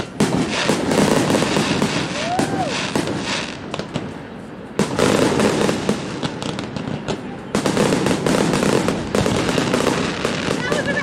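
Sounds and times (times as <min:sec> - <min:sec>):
fireworks bursting: 0:00.0 - 0:11.0
fireworks crackling: 0:00.0 - 0:11.0.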